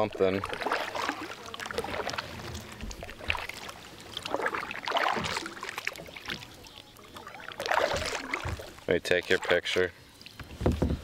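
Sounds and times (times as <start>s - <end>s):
paddle splashing in water: 0.0s - 11.0s.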